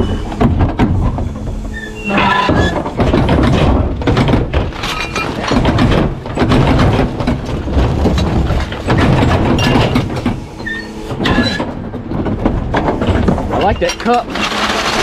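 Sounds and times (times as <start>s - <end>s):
low mechanical rumble: 0.0s - 15.0s
trash cracking and crunching: 0.0s - 15.0s.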